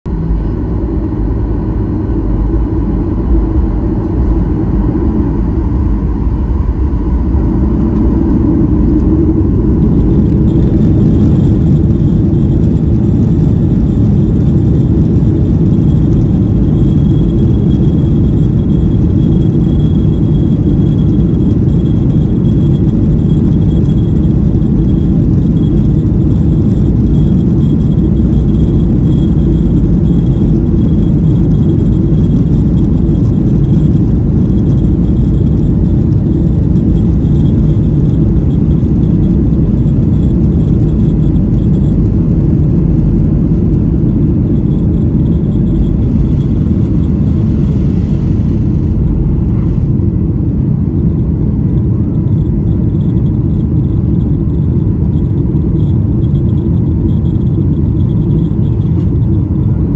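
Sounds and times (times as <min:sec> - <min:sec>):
jet engines rumbling in cabin: 0:00.0 - 0:59.9
thin high whine: 0:00.1 - 0:59.9.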